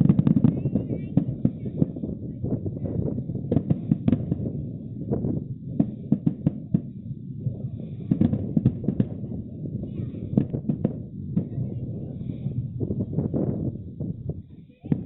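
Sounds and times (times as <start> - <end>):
fireworks bangs and booms: 0.0 - 15.0.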